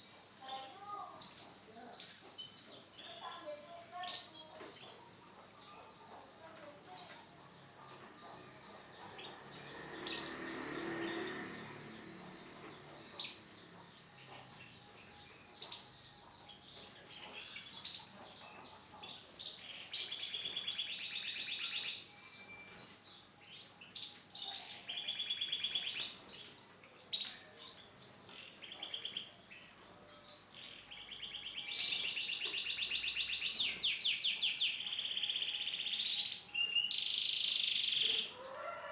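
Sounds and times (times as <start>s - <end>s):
canary singing with trills: 0.0s - 38.9s.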